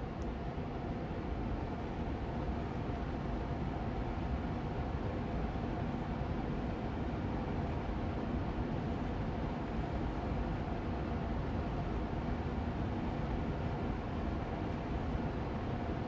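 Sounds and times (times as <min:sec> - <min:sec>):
air purifier fan humming: 0:00.0 - 0:16.0.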